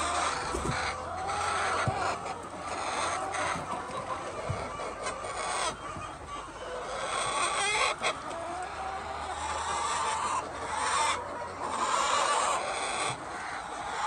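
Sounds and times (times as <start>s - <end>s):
hens clucking and calling: 0.0s - 14.0s.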